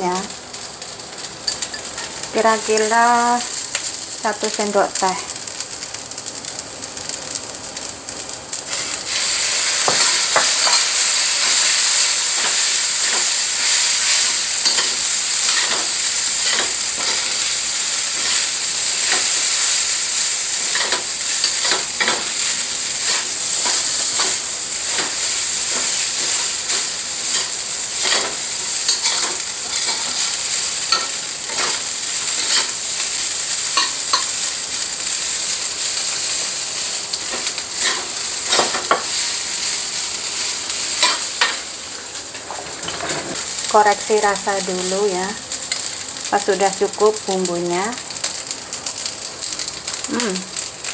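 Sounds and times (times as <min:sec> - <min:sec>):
rice sizzling in a wok: 0:00.0 - 0:50.9.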